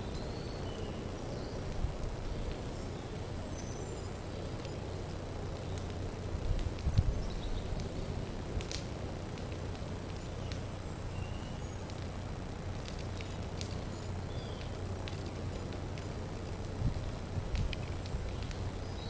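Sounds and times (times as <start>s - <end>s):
fire crackling: 0.0s - 19.0s
low steady rumble: 0.0s - 19.0s.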